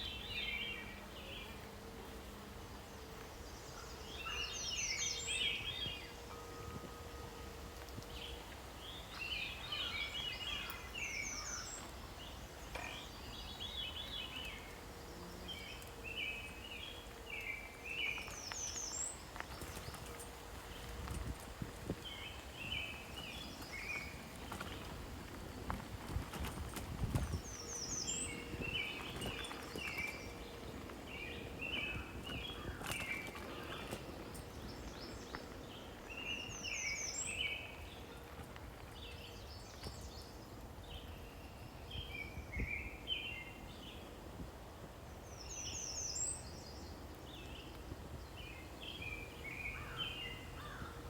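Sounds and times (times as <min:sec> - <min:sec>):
songbirds chirping: 0:00.0 - 0:51.0.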